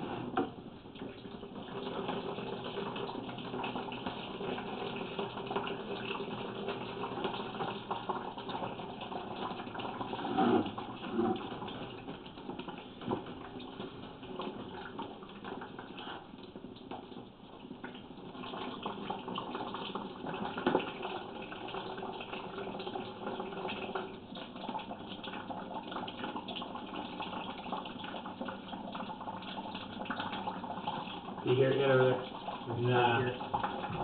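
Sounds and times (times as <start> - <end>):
water running down a drain pipe: 0.0 - 34.0.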